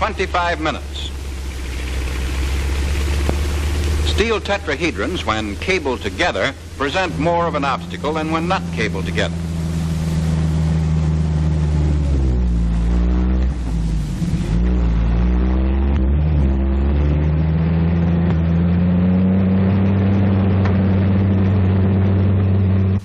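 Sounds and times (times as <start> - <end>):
tank engine labouring: 0.0 - 23.0.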